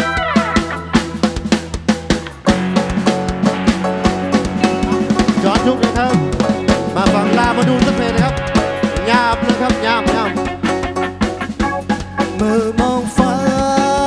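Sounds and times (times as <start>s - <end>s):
drum kit steady beat: 0.0s - 14.0s
lead melody with bending notes: 0.0s - 14.0s.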